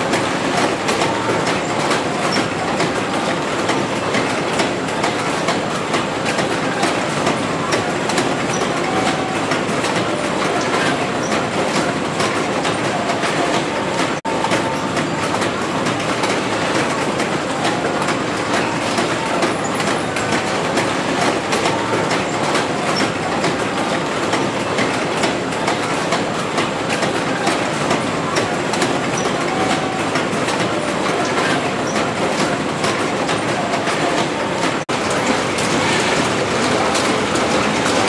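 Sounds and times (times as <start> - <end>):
conveyor clattering and clicking: 0.0 - 38.0.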